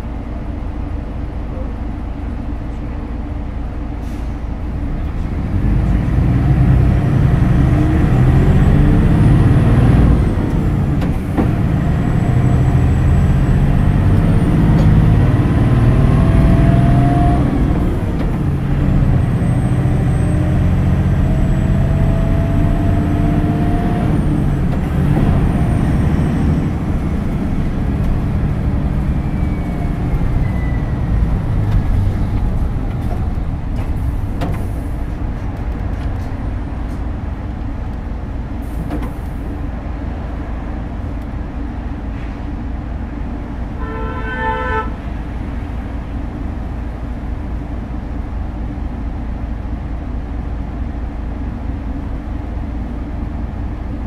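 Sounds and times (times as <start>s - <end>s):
bus drivetrain whine: 0.0s - 54.0s
bus engine low rumble: 0.0s - 54.0s.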